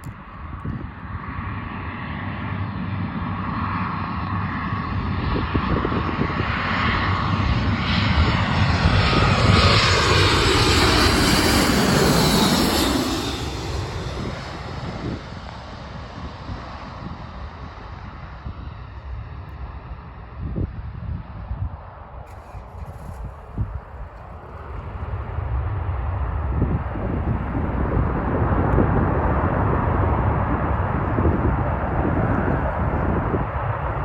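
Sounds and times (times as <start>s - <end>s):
propeller plane passing: 0.0s - 34.0s.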